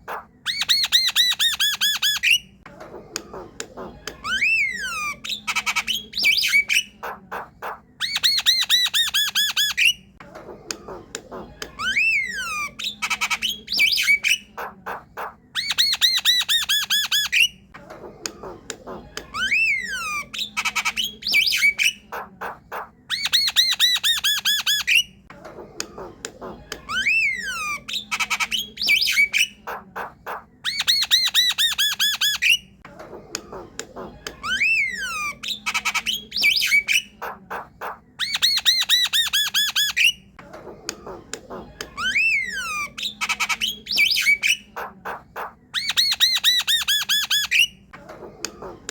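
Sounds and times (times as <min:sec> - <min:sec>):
bird clicks and harsh chatter: 0:00.0 - 0:48.9.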